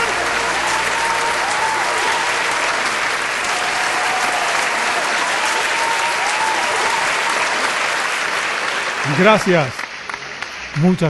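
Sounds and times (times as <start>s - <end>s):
audience applause: 0.0s - 11.0s.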